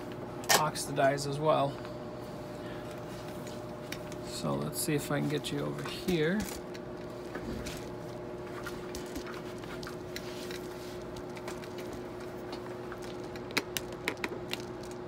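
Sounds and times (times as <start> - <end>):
machine electric hum: 0.0 - 15.0.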